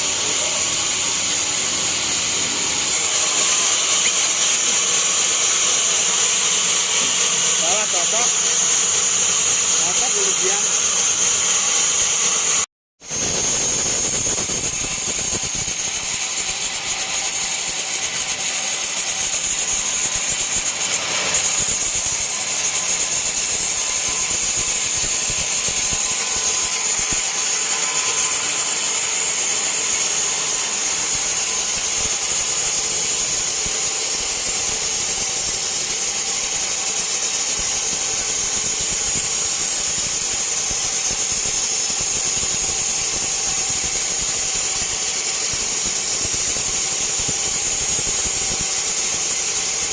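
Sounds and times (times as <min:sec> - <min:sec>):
band saw cutting log: 0:00.0 - 0:49.9.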